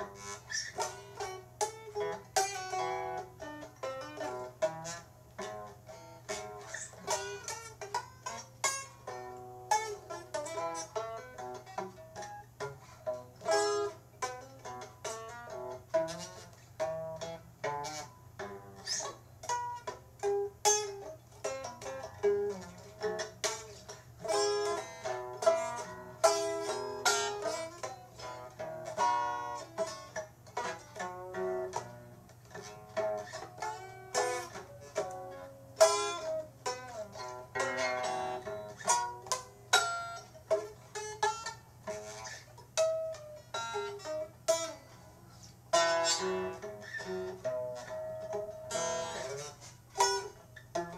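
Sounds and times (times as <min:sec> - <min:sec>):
faint steady low hum: 0:00.0 - 0:50.9
plucked string instrument music: 0:00.0 - 0:50.9.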